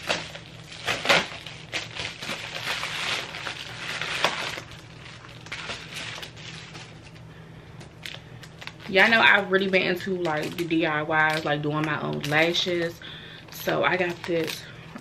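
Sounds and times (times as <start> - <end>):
plastic package crinkling: 0.0 - 15.0.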